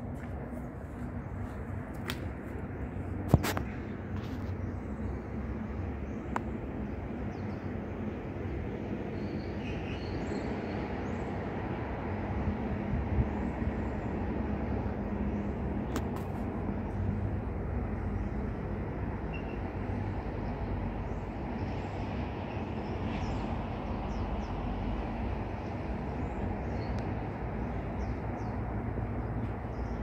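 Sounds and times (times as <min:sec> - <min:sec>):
steady low rumble: 0:00.0 - 0:09.4, 0:10.3 - 0:30.0.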